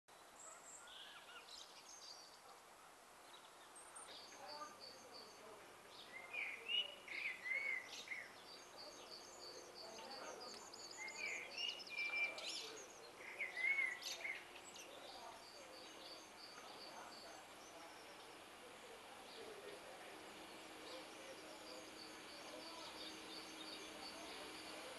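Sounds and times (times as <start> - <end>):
faint steady background hiss: 0.1 - 24.9
songbirds chirping: 0.1 - 24.9.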